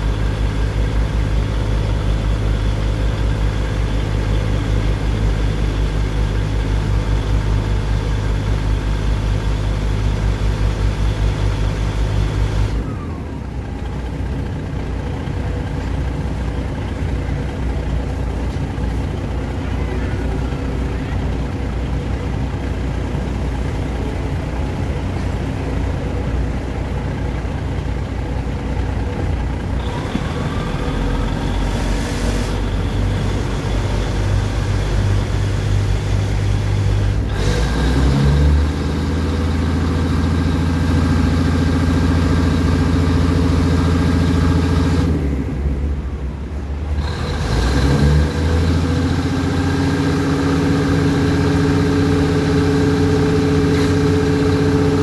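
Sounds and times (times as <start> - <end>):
diesel train engine drone: 0.0 - 55.0
rumble from the track: 0.0 - 55.0.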